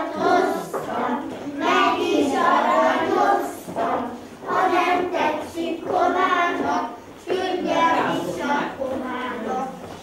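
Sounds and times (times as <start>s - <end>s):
young children singing: 0.0s - 10.0s.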